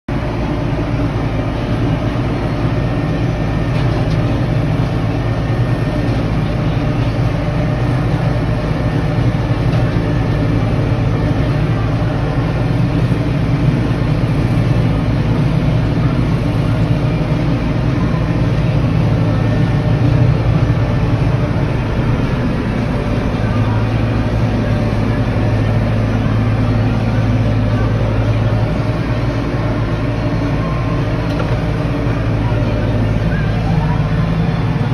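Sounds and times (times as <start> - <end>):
tractor diesel engine humming: 0.1 - 34.9.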